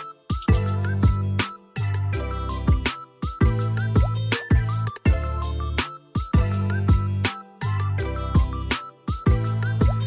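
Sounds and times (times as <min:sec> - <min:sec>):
background music with bass drum: 0:00.0 - 0:10.0.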